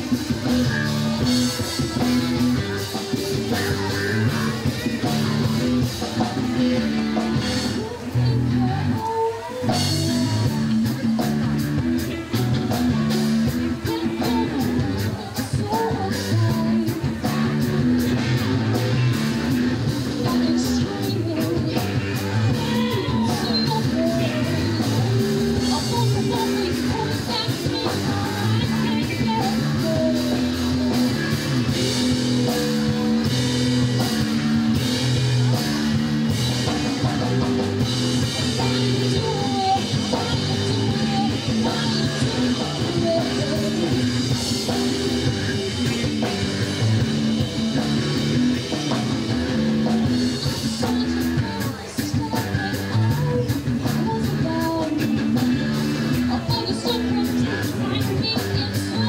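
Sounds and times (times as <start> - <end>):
drum kit: 0.0 - 59.0
electric guitar: 0.0 - 59.0
woman singing lead: 0.0 - 59.0.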